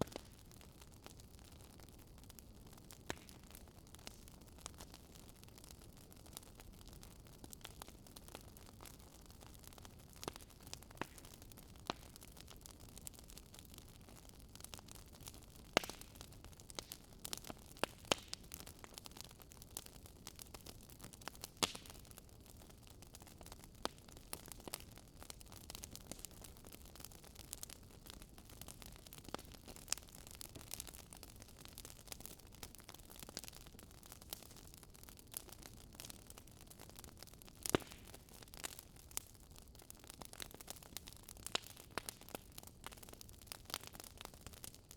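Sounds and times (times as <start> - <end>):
fire crackling and popping: 0.0 - 44.9
soft hiss of fire: 0.0 - 44.9.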